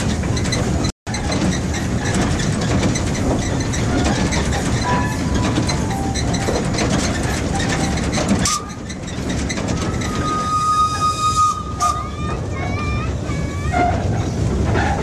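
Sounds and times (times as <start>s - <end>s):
locomotive rattling running noise: 0.0s - 15.0s.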